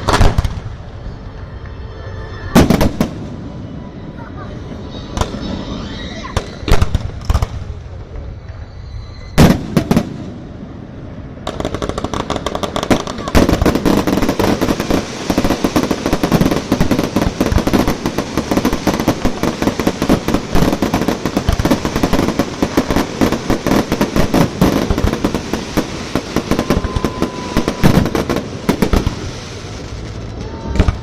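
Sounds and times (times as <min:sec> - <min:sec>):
firework whistle: 0:00.0 - 0:07.3, 0:08.0 - 0:10.5, 0:12.9 - 0:31.0
fireworks crackling and booming: 0:00.0 - 0:31.0.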